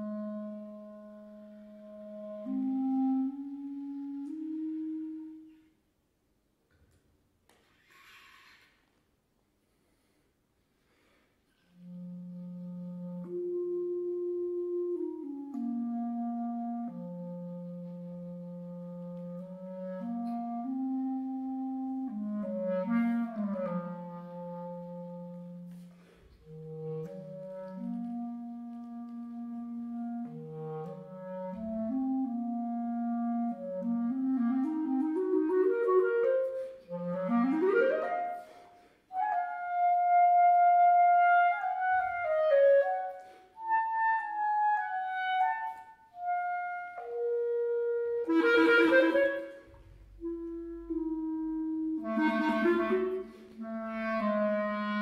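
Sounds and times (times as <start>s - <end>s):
clarinet solo: 0.0s - 5.8s, 11.6s - 55.0s.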